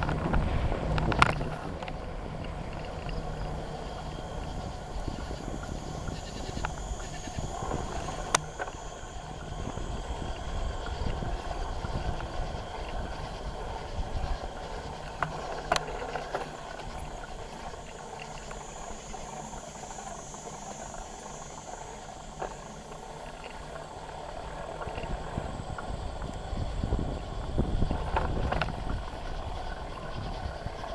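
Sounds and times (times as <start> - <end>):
bicycle tyre road rumble: 0.0 - 30.9
insects chirping: 0.0 - 30.9.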